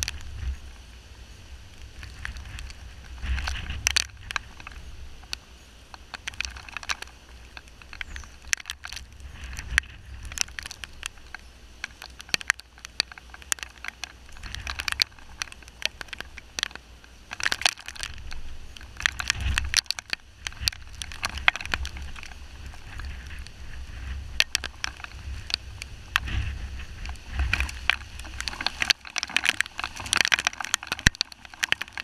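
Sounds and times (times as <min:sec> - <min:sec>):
rain hiss: 0:00.0 - 0:32.0
rain tapping on camera: 0:00.0 - 0:32.0
wind buffeting microphone: 0:00.0 - 0:32.0.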